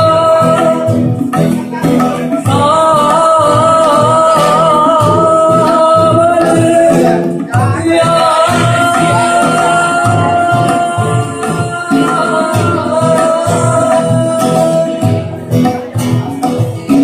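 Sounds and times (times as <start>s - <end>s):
man singing long notes: 0.0s - 15.6s
acoustic guitar: 0.0s - 17.0s
low drum beat: 0.0s - 17.0s.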